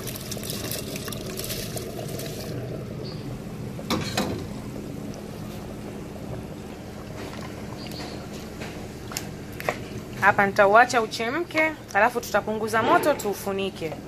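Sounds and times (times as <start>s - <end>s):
stock boiling in a pot: 0.0s - 14.0s.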